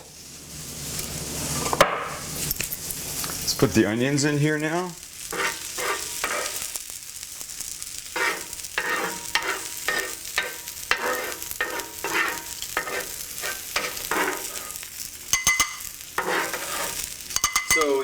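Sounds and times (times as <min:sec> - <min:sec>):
food sizzling in a pan: 0:00.0 - 0:18.0
utensil scraping frying pan: 0:00.0 - 0:18.0.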